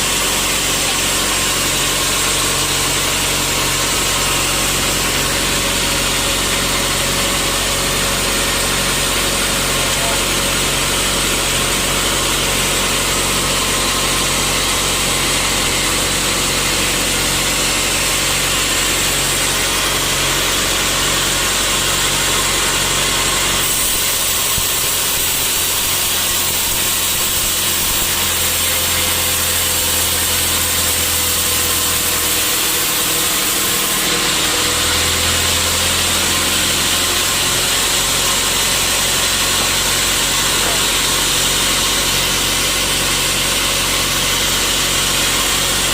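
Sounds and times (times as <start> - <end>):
sawmill saw running: 0.0 - 45.9.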